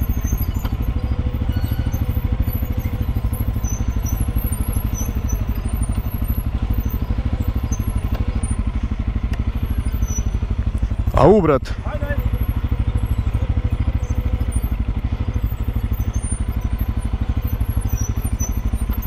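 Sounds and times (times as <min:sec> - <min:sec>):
quad bike engine idling: 0:00.0 - 0:19.0.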